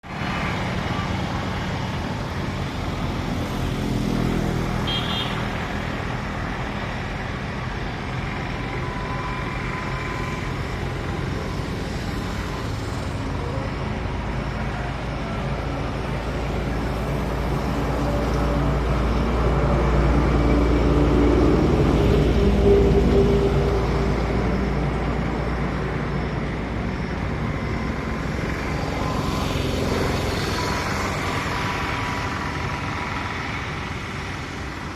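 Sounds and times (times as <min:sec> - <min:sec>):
road traffic noise: 0:00.0 - 0:34.9
approaching vehicle rumble: 0:05.5 - 0:34.9.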